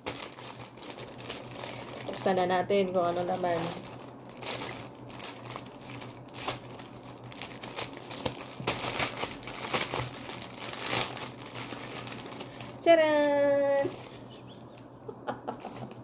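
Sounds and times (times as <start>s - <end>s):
plastic bag crinkling: 0.0s - 14.9s, 15.5s - 16.0s.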